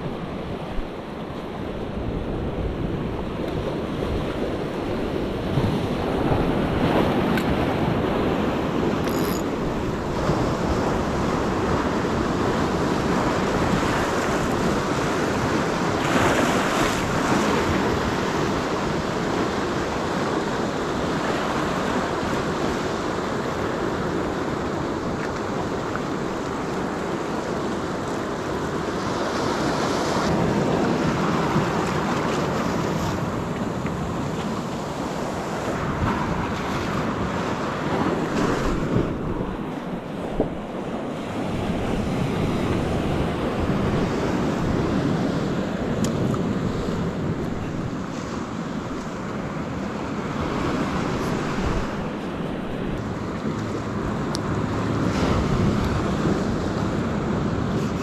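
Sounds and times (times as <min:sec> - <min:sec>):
sea surf breaking on rocks: 0:00.0 - 0:58.0.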